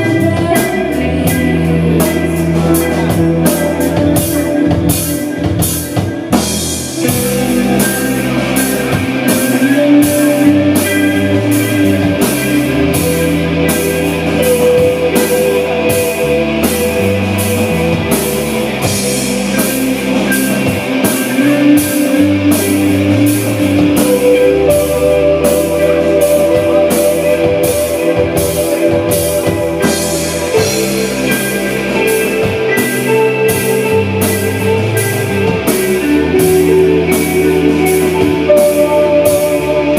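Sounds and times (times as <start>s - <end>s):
rock music: 0.0s - 39.9s
sustained guitar notes: 0.0s - 39.9s
drum beat: 2.0s - 39.9s.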